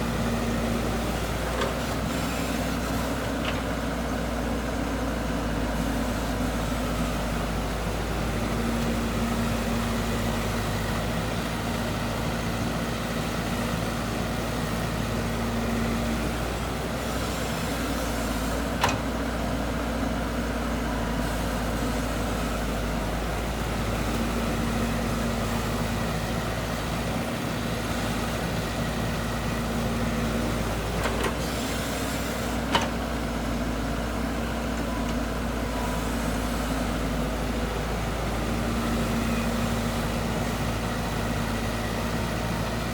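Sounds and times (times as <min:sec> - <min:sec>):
diesel machinery engine running: 0:00.0 - 0:42.9.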